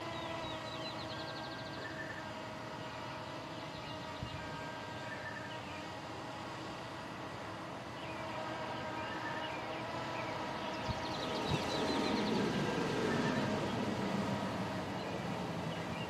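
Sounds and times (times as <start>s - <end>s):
birds chirping: 0.0s - 6.2s, 7.3s - 16.0s
drone propellers humming: 0.0s - 16.0s.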